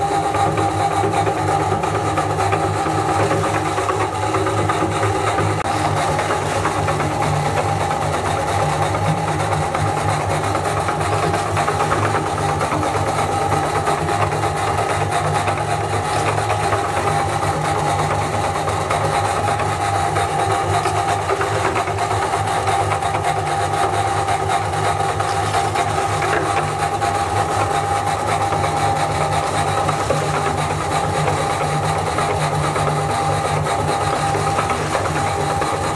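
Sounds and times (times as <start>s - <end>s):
meat grinder grinding biscuits: 0.0s - 35.9s.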